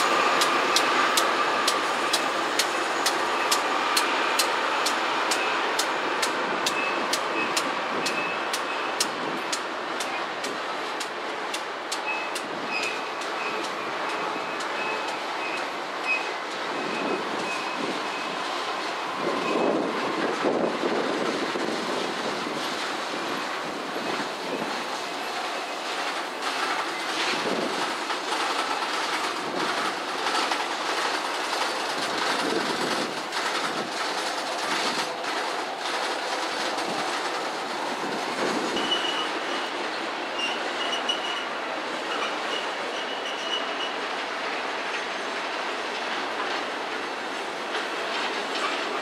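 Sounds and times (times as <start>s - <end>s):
freight train rumbling over bridge: 0.0s - 49.0s
wheels clicking over rail joints: 0.0s - 49.0s.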